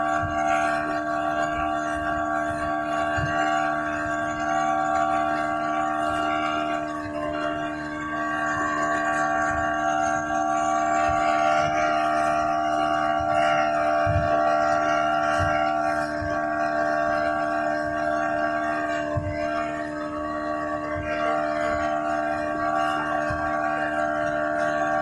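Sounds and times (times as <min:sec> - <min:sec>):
outboard motor running at high speed: 0:00.0 - 0:25.0.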